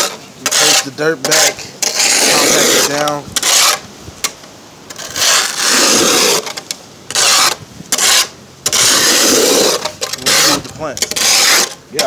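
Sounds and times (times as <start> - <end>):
rough scraping and rubbing: 0.0 - 12.0.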